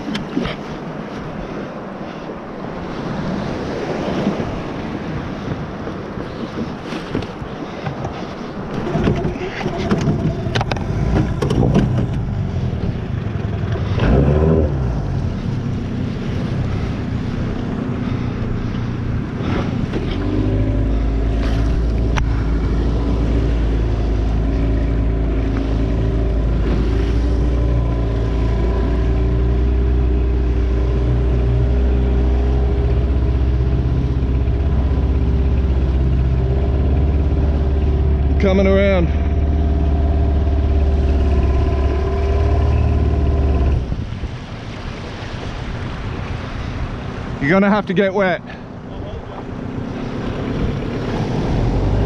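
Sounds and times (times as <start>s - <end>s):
water noise: 0.0s - 52.0s
wind: 0.0s - 52.0s
outboard motor running: 2.9s - 52.0s.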